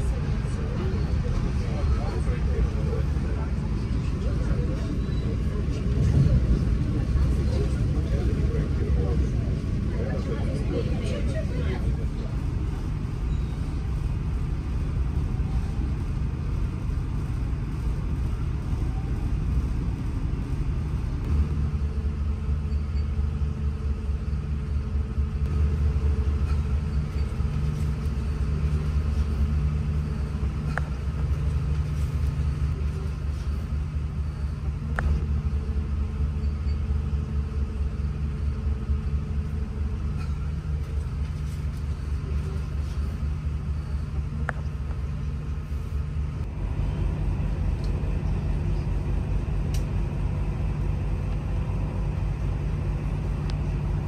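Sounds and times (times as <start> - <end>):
diesel train engine hum and rumble: 0.0 - 54.0.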